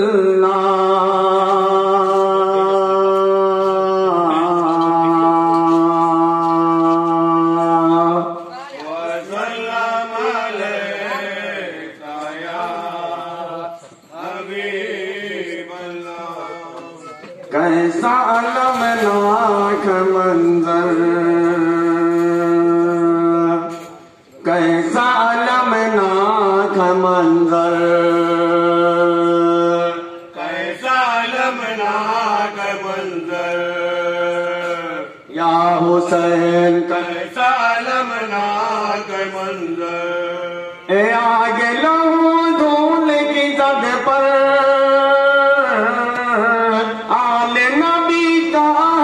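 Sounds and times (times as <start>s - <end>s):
man chanting unaccompanied: 0.0s - 49.0s
man singing into microphone: 0.0s - 49.0s.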